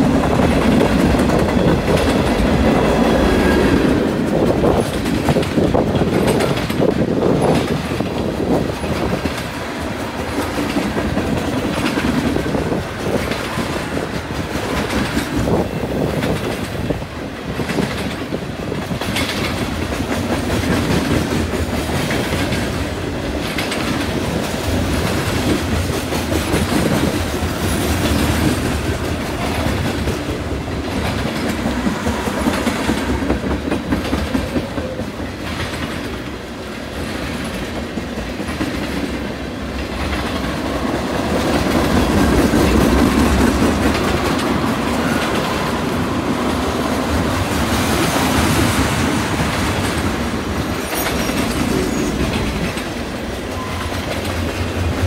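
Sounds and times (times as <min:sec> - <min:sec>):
freight train rolling past: 0:00.0 - 0:55.0
wheels clacking over rail joints: 0:00.0 - 0:55.0.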